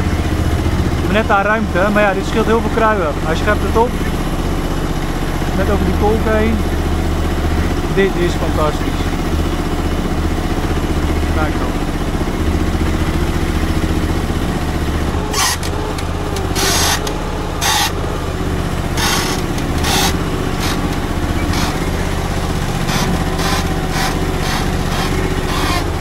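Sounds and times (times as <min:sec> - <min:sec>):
mini loader engine running: 0:00.0 - 0:26.0.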